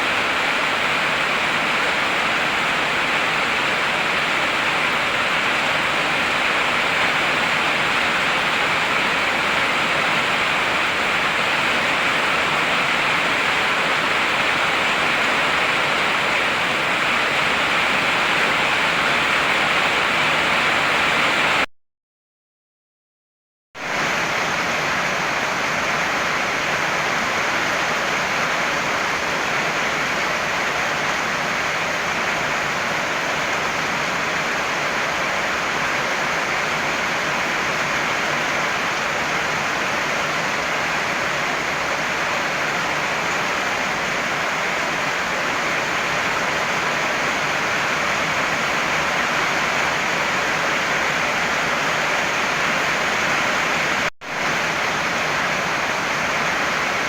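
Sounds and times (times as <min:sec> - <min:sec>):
heavy rain falling: 0:00.0 - 0:21.7, 0:23.8 - 0:57.0.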